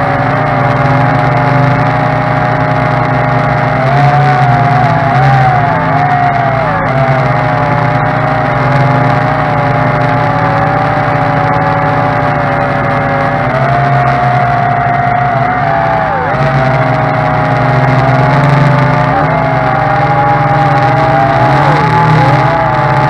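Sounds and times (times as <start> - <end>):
drone propellers buzzing: 0.0 - 23.0.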